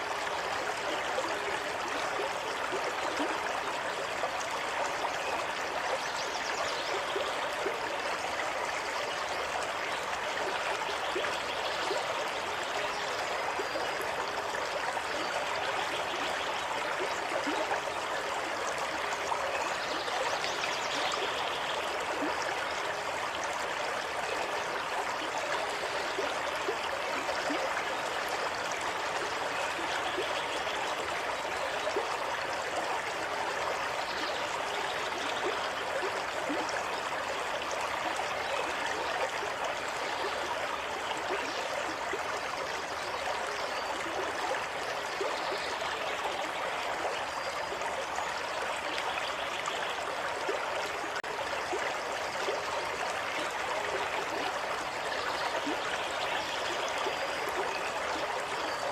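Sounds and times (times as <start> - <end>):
stream babbling: 0.0 - 58.9.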